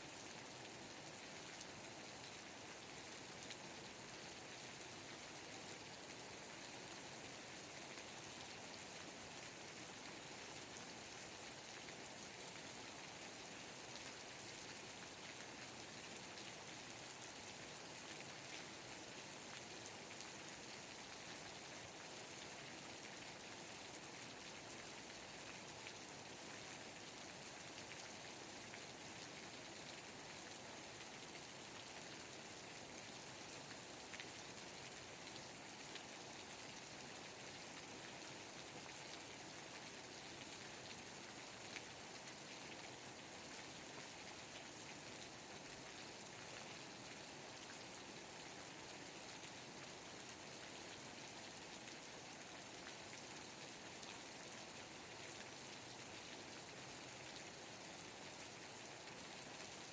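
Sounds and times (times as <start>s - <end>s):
faint rainfall: 0.0s - 59.9s.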